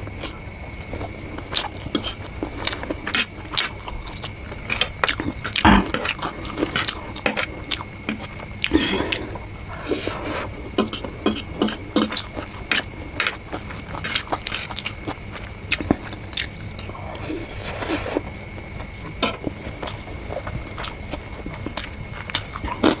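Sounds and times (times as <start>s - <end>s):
chewing noodles: 0.1s - 23.0s.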